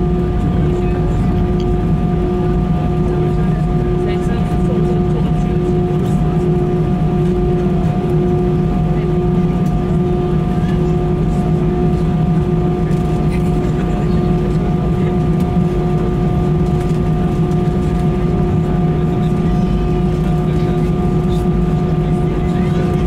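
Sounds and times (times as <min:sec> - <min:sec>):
jet engines idling in cabin: 0:00.0 - 0:23.0.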